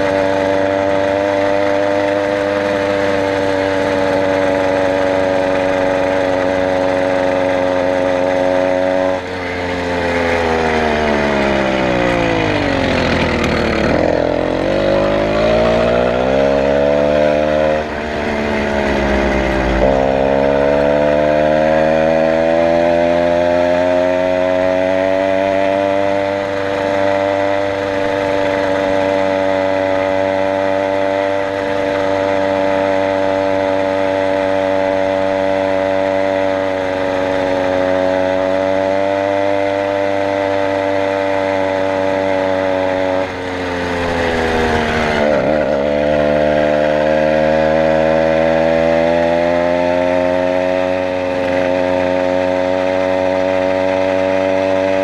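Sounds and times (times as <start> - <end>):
two-stroke bicycle engine running: 0.0 - 55.0.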